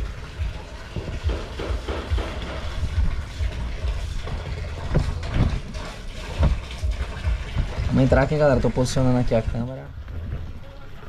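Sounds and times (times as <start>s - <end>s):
low rumbling thumps: 0.0s - 11.0s
water from hose splashing into pool: 0.0s - 11.0s.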